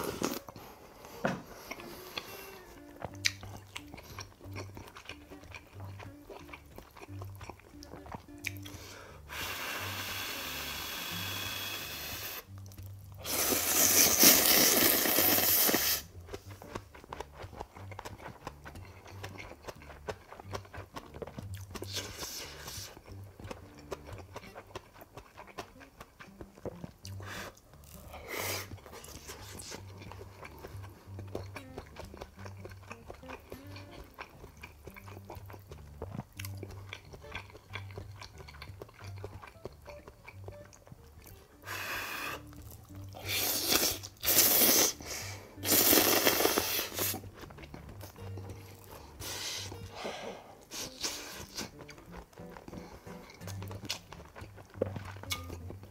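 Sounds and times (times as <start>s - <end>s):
noodles being slurped: 0.0s - 0.6s, 1.7s - 26.4s, 27.1s - 40.0s, 41.6s - 55.9s
chewing with mouth clicks: 0.0s - 55.9s.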